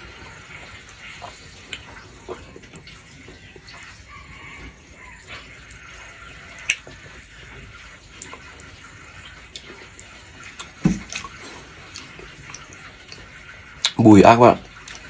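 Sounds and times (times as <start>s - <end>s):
chewing sounds: 0.0s - 14.0s, 14.6s - 15.0s.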